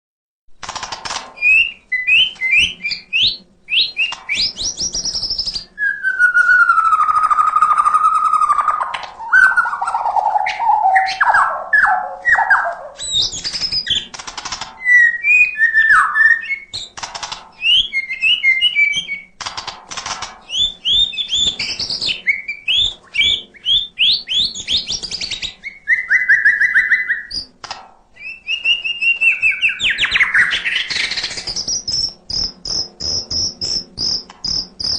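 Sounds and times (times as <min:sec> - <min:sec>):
bird singing whistled phrases: 0:01.4 - 0:14.1, 0:14.8 - 0:16.9, 0:17.6 - 0:19.4, 0:20.5 - 0:27.5, 0:28.2 - 0:34.9.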